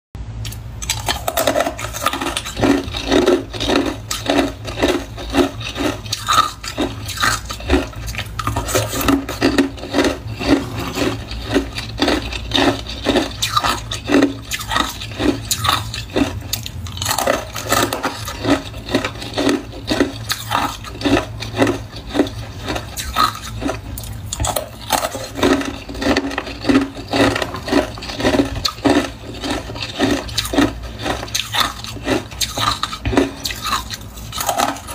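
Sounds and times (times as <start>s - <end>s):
crunching and chewing ice: 0.4s - 34.9s.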